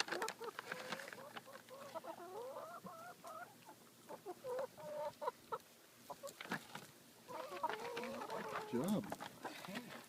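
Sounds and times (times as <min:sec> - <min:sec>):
hens clucking: 0:00.0 - 0:10.0.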